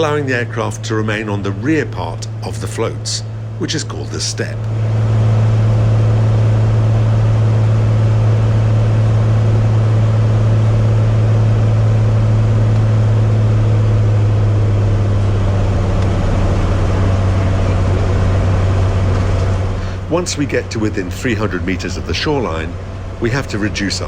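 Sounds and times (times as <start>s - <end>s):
airplane engine and propeller drone: 0.0s - 24.0s.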